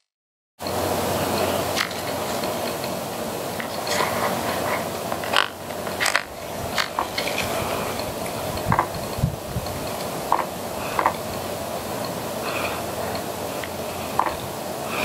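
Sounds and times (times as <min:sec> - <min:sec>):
outdoor hiss: 0:00.6 - 0:15.0.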